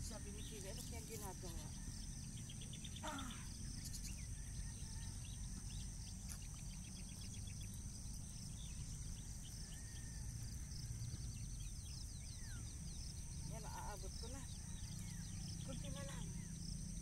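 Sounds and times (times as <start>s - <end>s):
birds chirping: 0.0s - 17.0s
insect drone: 0.0s - 17.0s
low steady rumble: 0.0s - 17.0s.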